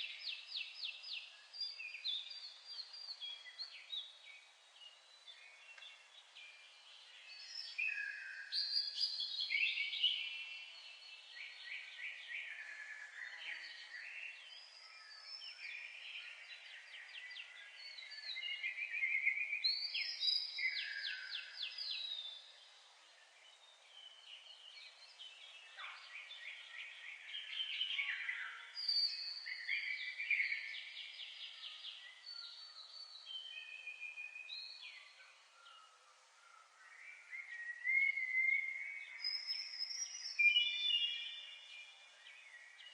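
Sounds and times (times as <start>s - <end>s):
songbirds trilling and chirping: 0.0s - 42.9s.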